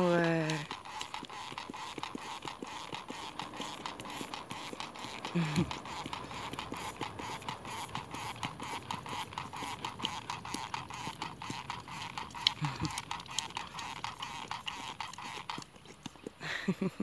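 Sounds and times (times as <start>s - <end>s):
dog lapping wet licks: 0.0s - 16.4s.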